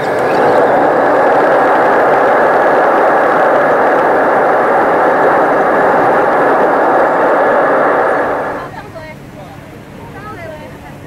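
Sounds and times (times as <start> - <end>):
jet engines roaring in cabin: 0.0 - 11.0.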